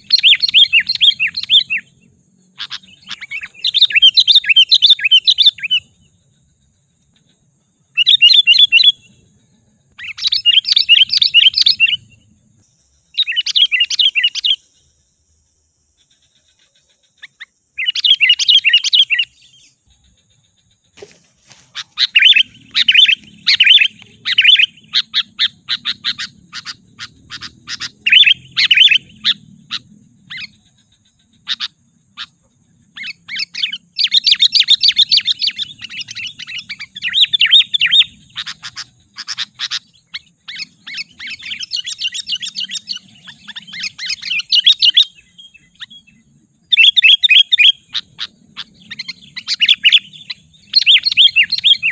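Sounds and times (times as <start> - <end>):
bulbul singing: 0.0 - 51.9.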